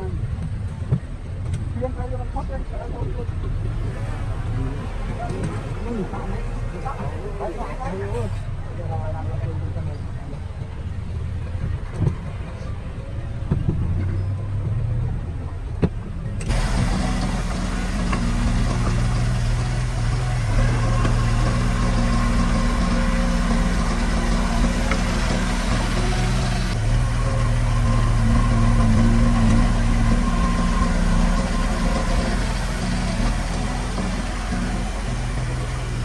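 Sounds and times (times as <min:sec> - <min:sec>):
heavy diesel engine running: 0:03.6 - 0:36.0.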